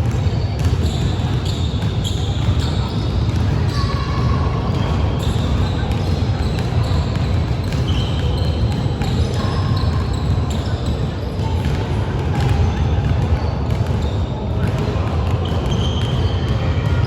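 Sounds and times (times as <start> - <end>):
basketball bouncing on court: 0.0 - 17.0
players' voices: 0.0 - 17.0.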